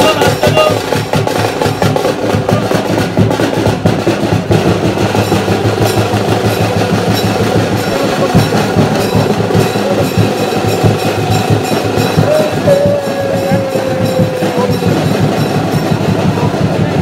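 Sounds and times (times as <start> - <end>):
fast drumming: 0.0 - 17.0.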